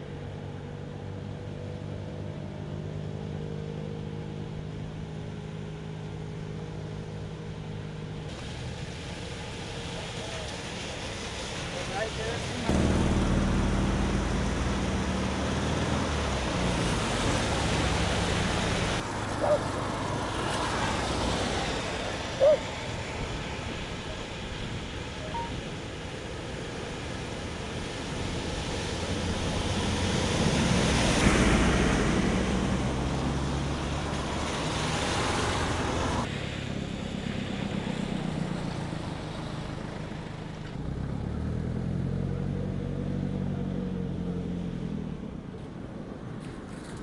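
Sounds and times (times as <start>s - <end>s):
bus engine: 0.0s - 47.0s
low running vehicle engines: 0.0s - 47.0s
water spray from wheels: 2.8s - 47.0s.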